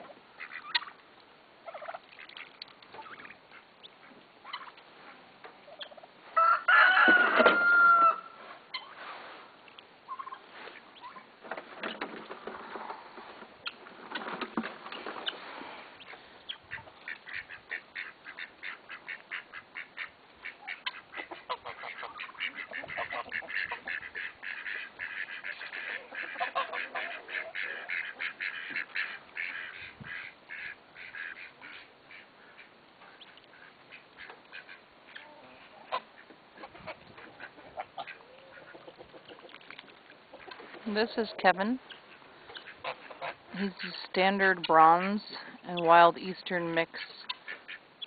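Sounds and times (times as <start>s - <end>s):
ducks quacking: 0.0s - 1.0s, 1.7s - 7.1s, 14.9s - 46.1s, 46.8s - 48.0s.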